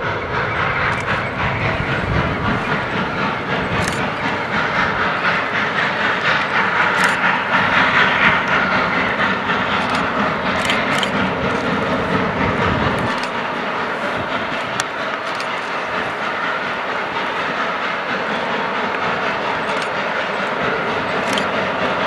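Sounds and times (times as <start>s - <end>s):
steam locomotive exhaust: 0.0s - 22.0s.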